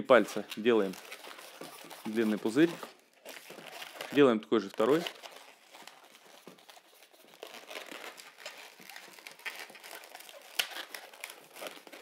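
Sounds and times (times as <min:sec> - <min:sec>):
balloon squeaking and crackling: 0:00.0 - 0:12.0.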